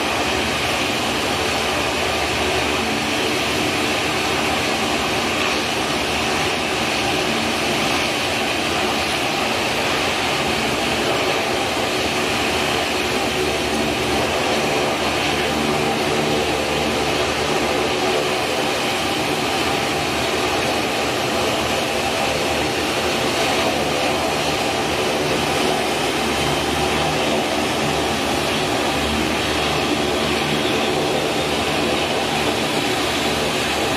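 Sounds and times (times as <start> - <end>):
turboprop engines droning: 0.0 - 33.9.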